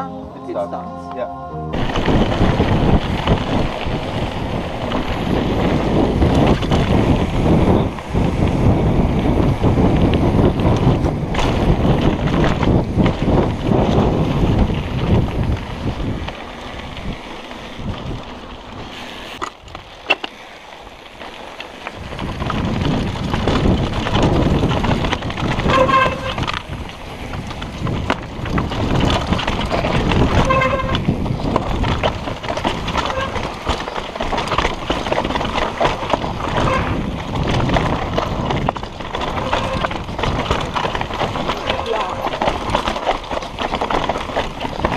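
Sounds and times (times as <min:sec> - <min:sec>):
bike rattling over rough ground: 0:01.7 - 0:44.9
bike tyre and trail noise: 0:01.7 - 0:44.9.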